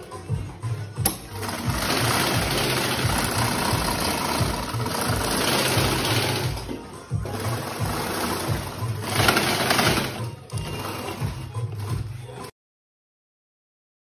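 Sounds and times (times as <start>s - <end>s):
industrial sewing machine stitching: 1.0s - 12.4s.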